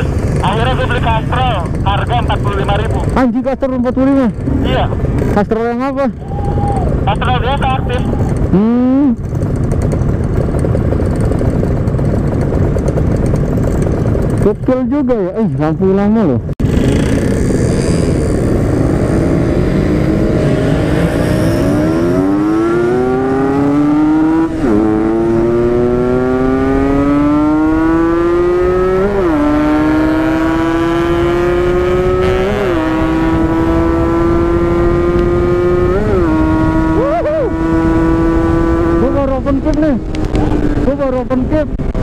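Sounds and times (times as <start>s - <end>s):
motorcycle accelerating: 0.0s - 42.0s.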